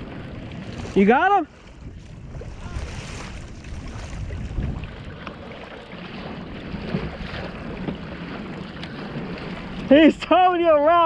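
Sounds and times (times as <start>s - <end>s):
water splashing around kayak: 0.0s - 11.0s
wind buffeting microphone: 0.0s - 11.0s.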